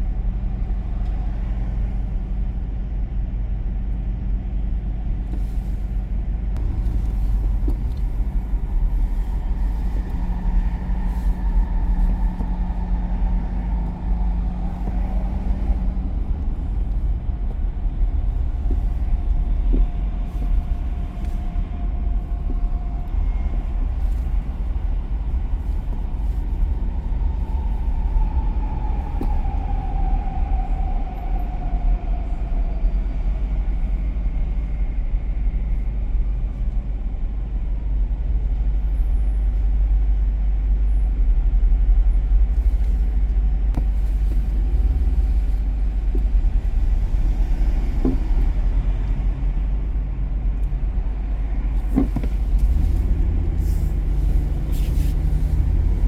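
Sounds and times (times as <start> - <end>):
car driving on city streets: 0.0 - 56.0.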